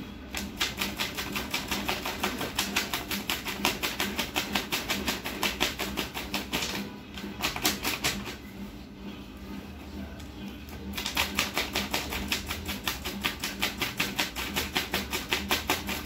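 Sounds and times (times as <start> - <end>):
paper stack riffled by hand: 0.4 - 8.4, 11.0 - 16.0.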